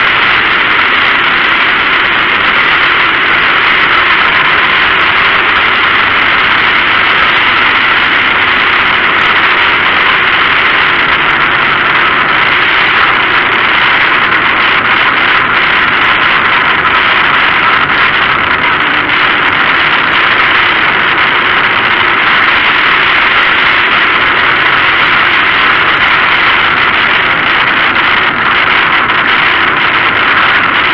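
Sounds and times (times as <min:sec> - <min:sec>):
car engine running: 0:00.0 - 0:30.9
wind noise: 0:00.0 - 0:30.9.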